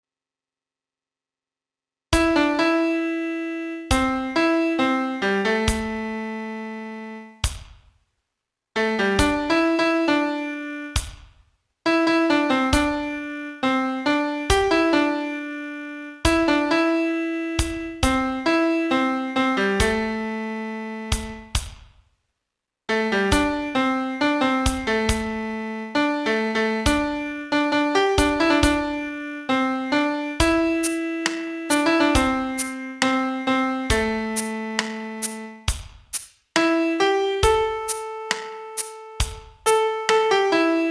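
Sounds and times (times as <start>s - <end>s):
slow piano melody: 2.2s - 7.4s, 8.8s - 11.0s, 11.9s - 21.5s, 22.9s - 35.7s, 36.6s - 40.9s.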